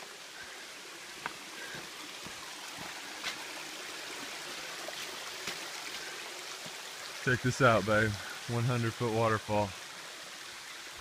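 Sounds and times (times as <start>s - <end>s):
waterfall rushing hiss: 0.0s - 11.0s.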